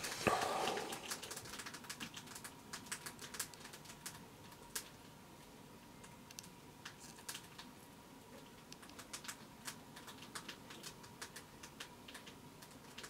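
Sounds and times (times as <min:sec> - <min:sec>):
faint steady high hum: 0:00.0 - 0:13.0.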